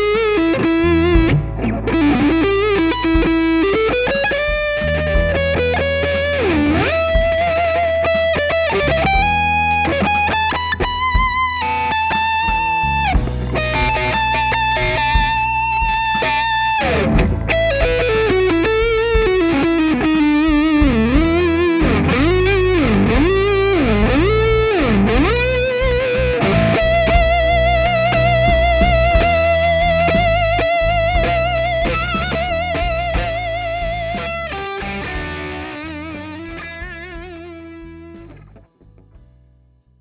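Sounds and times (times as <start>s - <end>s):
distorted electric guitar lead: 0.0s - 39.2s
blues backing track drums and bass: 0.0s - 39.9s.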